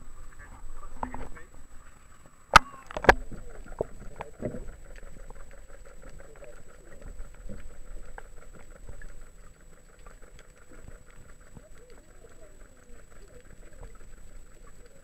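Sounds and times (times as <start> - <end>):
muffled underwater sound: 0.0 - 15.0.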